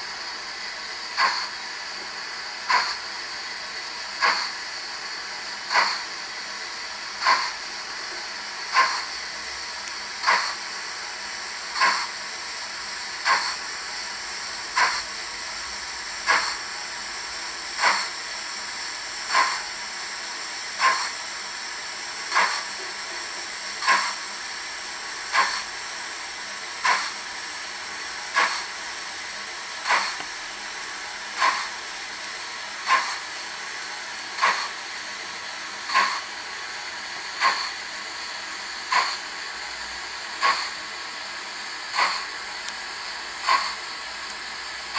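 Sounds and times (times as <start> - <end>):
model locomotive steam hiss: 0.0 - 44.9
steam chuffs: 0.0 - 44.9.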